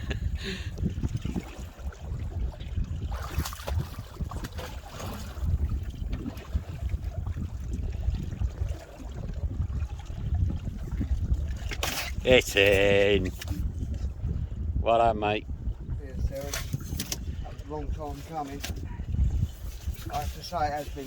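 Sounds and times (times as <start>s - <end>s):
choppy water around boat: 0.0s - 21.0s
wind buffeting microphone: 0.0s - 21.0s.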